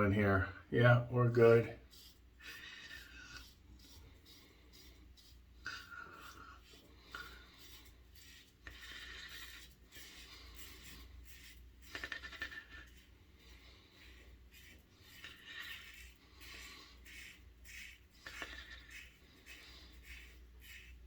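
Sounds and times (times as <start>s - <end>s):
razor scraping stubble: 1.0s - 21.0s.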